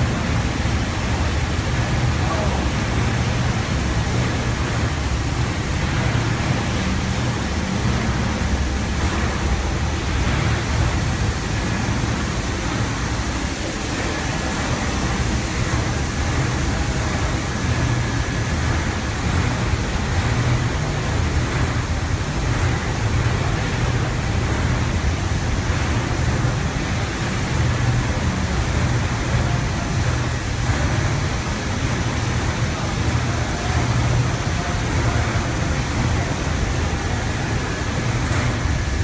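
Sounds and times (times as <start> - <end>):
motor and pump hum: 0.0 - 39.0.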